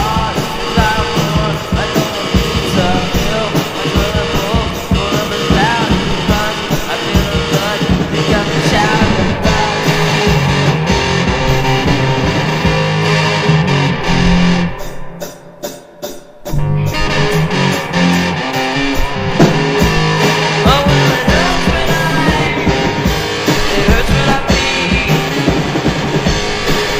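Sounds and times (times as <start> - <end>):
rock music with guitar and drums: 0.0 - 26.9.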